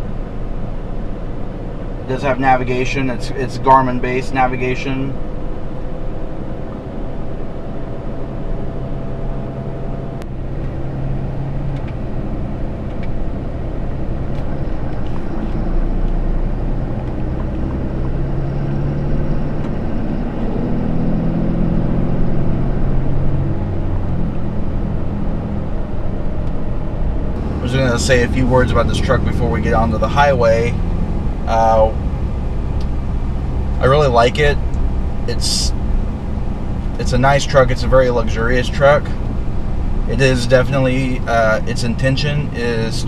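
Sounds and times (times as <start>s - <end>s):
diesel engine running: 0.0s - 43.0s
road and tyre noise: 0.0s - 43.0s.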